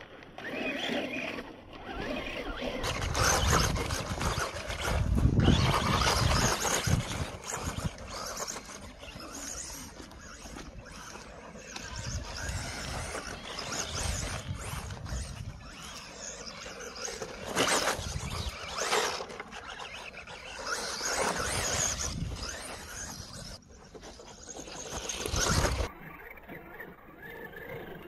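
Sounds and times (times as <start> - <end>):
rc car motor whining: 0.0 - 28.0.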